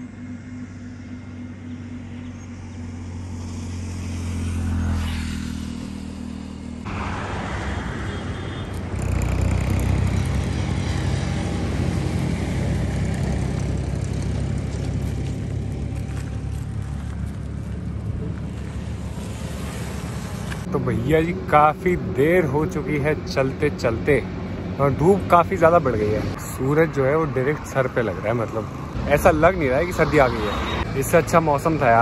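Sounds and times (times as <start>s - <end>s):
passing vehicle hum: 0.0s - 32.0s
steady traffic rumble: 0.0s - 32.0s.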